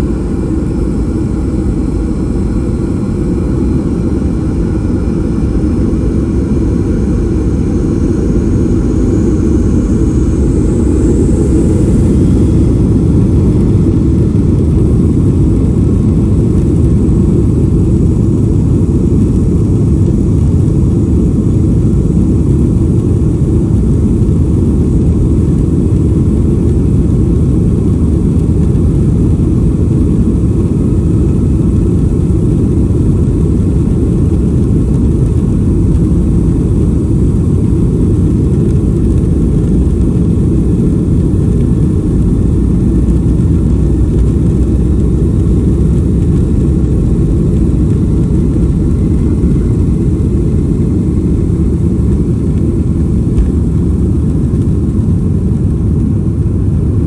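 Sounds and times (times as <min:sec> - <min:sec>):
jet engines at takeoff thrust: 0:00.0 - 0:57.0.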